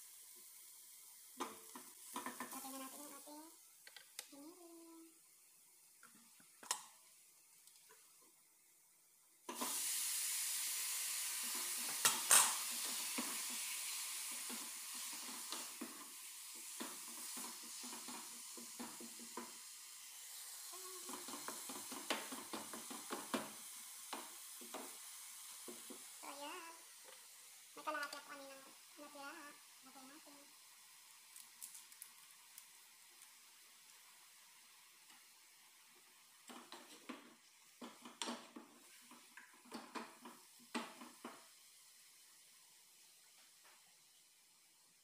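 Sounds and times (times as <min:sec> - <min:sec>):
meat sizzling in hot oil: 0:00.0 - 0:45.0.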